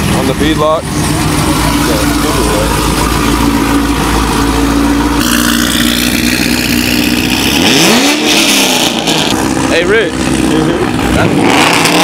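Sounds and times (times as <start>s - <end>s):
car engine idling with loping beat: 0.0s - 11.5s
engine revving: 0.0s - 12.0s.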